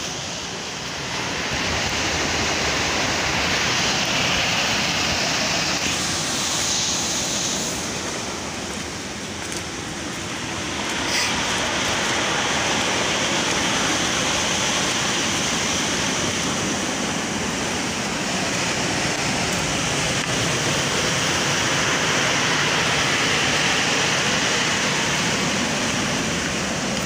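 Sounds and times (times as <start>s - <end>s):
surf breaking on pebbly shore: 0.0s - 27.0s.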